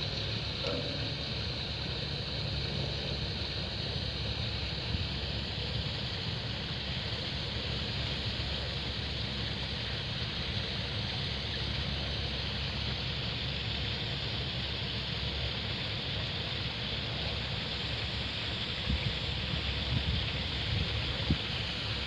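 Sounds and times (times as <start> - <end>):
even hiss: 0.0 - 22.0.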